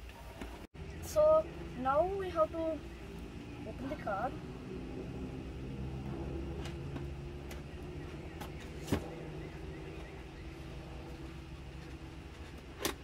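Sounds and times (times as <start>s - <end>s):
steady low hum: 0.7s - 13.0s.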